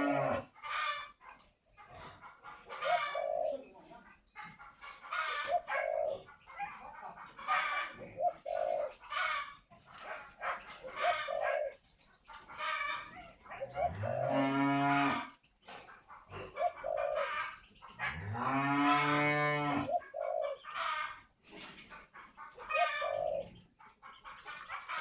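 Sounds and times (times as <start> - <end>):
dove cooing: 0.0 - 1.0, 1.8 - 11.9, 12.6 - 25.0.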